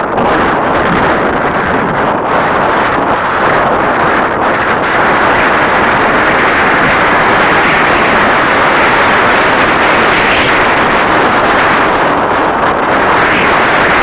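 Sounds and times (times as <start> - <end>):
heavy wind buffeting microphone: 0.0 - 14.0.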